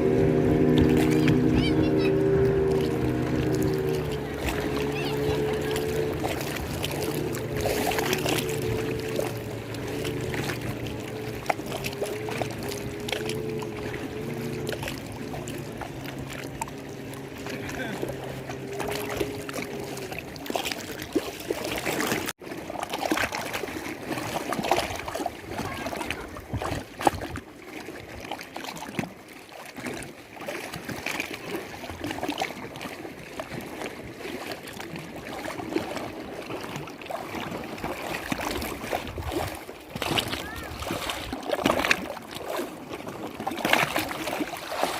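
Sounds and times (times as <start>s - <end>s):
lake water lapping: 0.0s - 44.9s.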